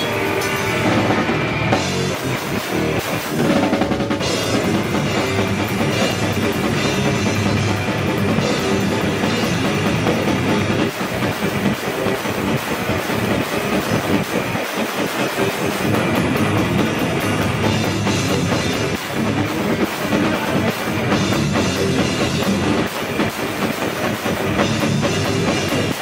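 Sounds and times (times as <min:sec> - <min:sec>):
cymbals: 0:00.0 - 0:26.0
drum kit played hard: 0:00.0 - 0:26.0
electric guitar: 0:00.0 - 0:26.0.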